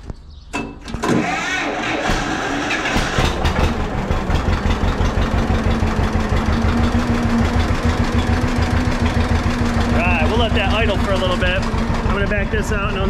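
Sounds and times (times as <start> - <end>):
tractor engine cranking and idling: 0.0 - 13.0.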